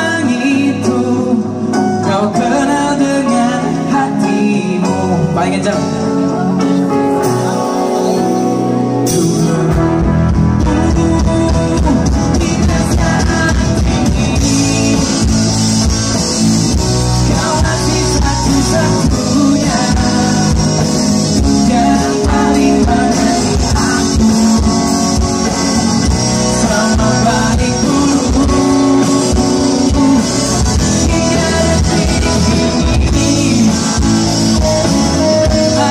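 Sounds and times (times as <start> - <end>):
person singing: 0.0 - 35.9
pop-rock band playing live: 0.0 - 35.9.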